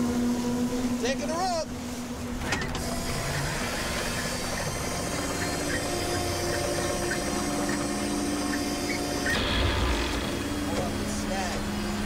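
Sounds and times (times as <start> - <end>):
boat machinery droning hum: 0.0 - 12.0.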